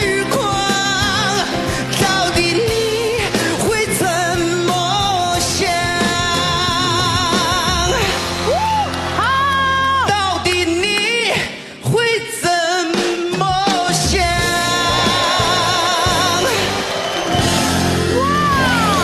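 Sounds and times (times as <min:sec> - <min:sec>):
man singing pop ballad: 0:00.0 - 0:08.6, 0:09.2 - 0:17.2
band playing: 0:00.0 - 0:11.6, 0:12.2 - 0:19.0.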